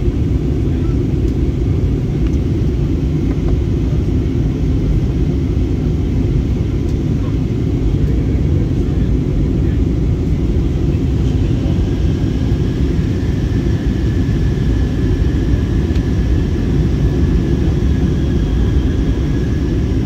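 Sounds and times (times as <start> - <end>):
airplane cabin engine rumble: 0.0 - 20.0.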